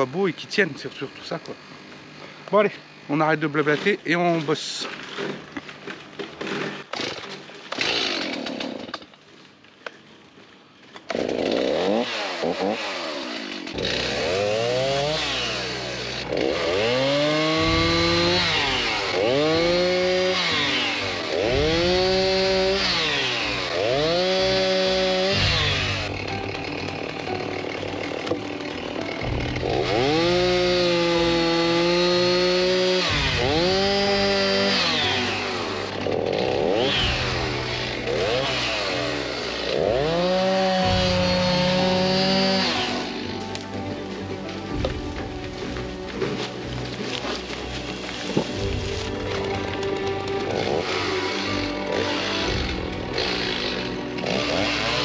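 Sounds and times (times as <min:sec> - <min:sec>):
chainsaw revving cutting wood: 0:01.3 - 0:09.2, 0:11.0 - 0:55.0.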